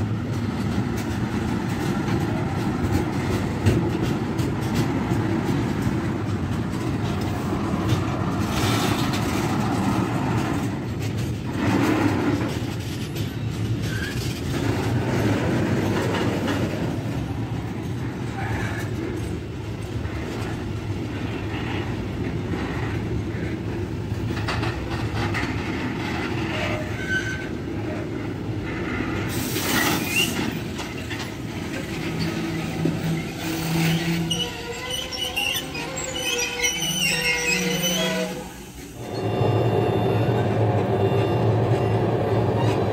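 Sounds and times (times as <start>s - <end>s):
train rolling on rails: 0.0s - 42.9s
train wheels clattering: 0.0s - 42.9s.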